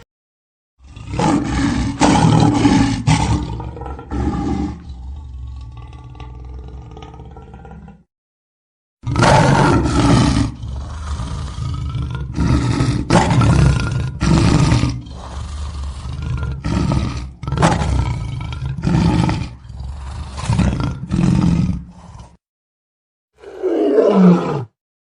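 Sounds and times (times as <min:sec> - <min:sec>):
lion roaring and growling: 0:00.8 - 0:08.1, 0:09.0 - 0:22.4, 0:23.4 - 0:24.8.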